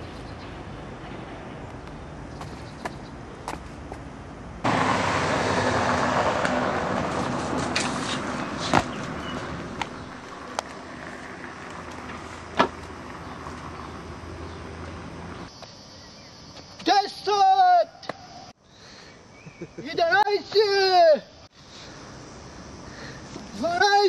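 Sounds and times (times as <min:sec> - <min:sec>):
road traffic noise: 0:00.0 - 0:16.8, 0:21.3 - 0:24.0.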